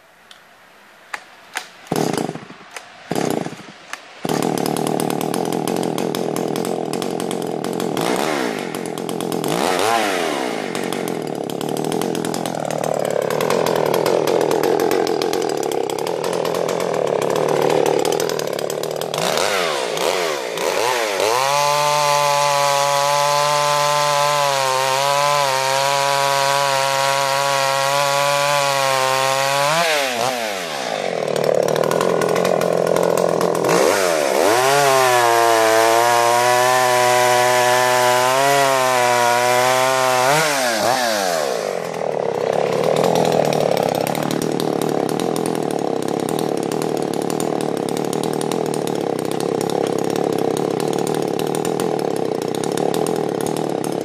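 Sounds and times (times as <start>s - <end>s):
chainsaw cutting log: 1.1s - 54.0s
chainsaw engine revving: 1.9s - 54.0s
chainsaw pull-start: 1.9s - 54.0s.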